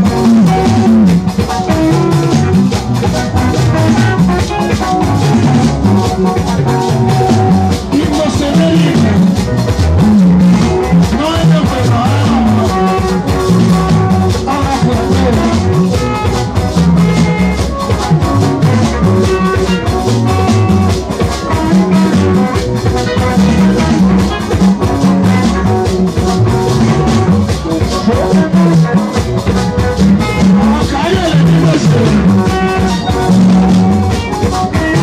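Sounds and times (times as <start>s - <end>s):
live dance band playing: 0.0s - 35.0s.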